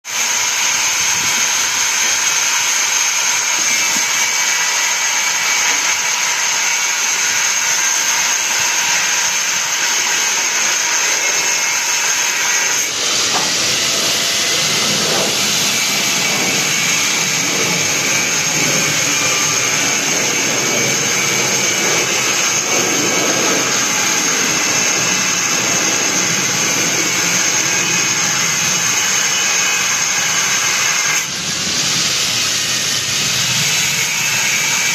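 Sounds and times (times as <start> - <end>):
loud machine noise with hiss: 0.1 - 34.9.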